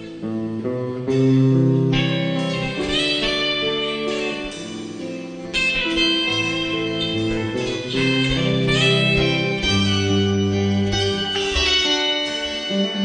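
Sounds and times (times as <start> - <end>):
guitar picking arpeggios: 0.0 - 13.0
live band music: 0.0 - 13.0.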